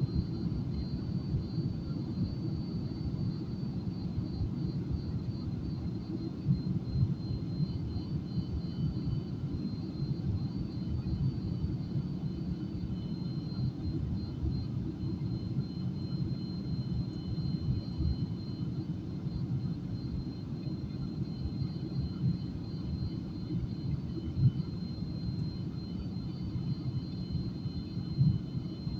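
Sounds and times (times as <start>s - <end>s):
faint high-pitched whine: 0.0s - 28.9s.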